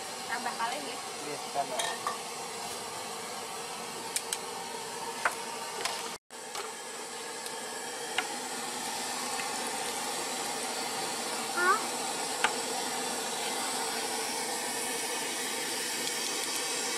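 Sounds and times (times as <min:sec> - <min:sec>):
boiling pot and burner hissing: 0:00.0 - 0:16.9.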